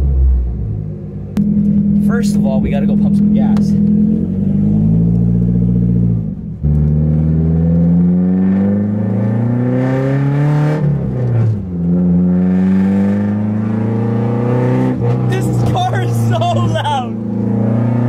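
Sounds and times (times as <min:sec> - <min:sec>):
car exhaust accelerating: 0:00.0 - 0:18.0.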